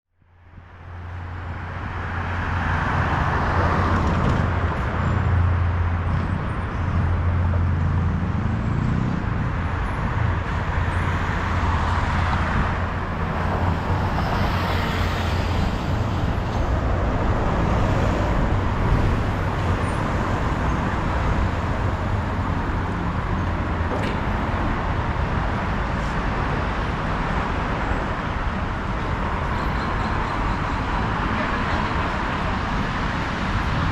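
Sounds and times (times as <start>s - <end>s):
road traffic rumble: 0.2s - 33.9s.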